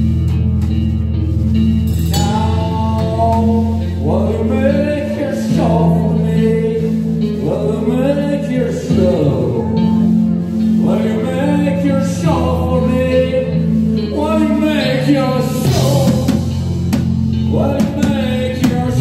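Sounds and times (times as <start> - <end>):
live rock band playing: 0.0 - 19.0
man singing: 2.1 - 19.0.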